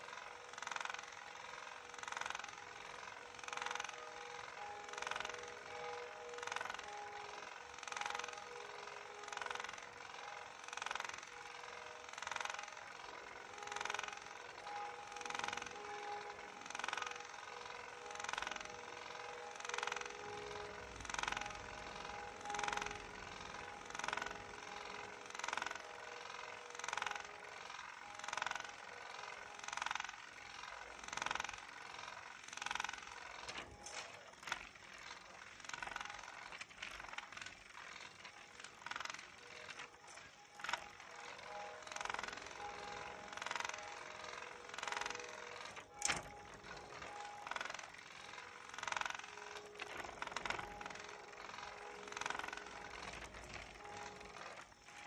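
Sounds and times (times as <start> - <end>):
small motor whirring: 0.0 - 55.0.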